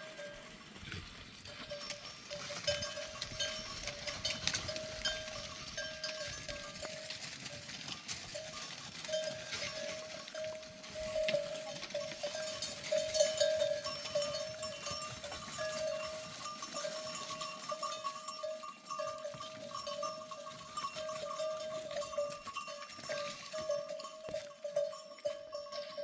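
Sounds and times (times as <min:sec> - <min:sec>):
animal bells clinking and jingling: 0:00.0 - 0:26.0.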